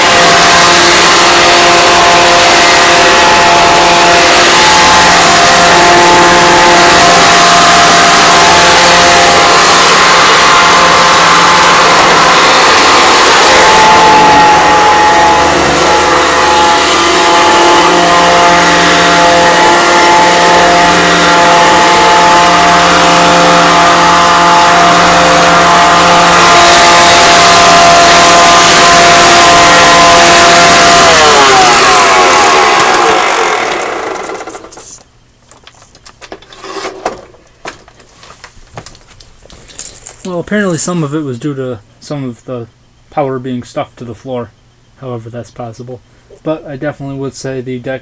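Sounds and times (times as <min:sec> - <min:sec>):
vacuum cleaner whining: 0:00.0 - 0:40.3.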